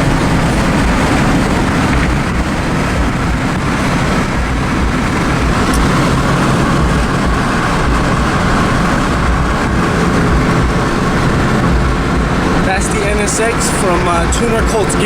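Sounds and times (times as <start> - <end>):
car engine running: 0.0 - 15.0
road and wind noise: 0.0 - 15.0.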